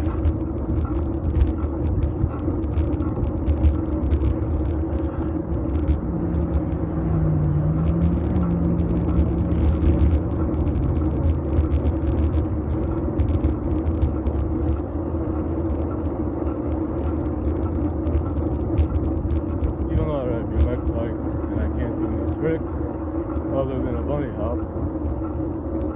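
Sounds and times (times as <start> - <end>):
bike tyre and road rumble: 0.0 - 25.9
low droning tone: 0.0 - 25.9
rattles and clicks from bumps: 0.0 - 25.9.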